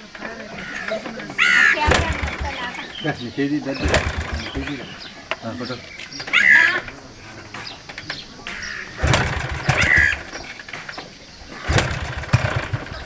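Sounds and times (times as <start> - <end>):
motorcycle engine starting: 0.0 - 13.0.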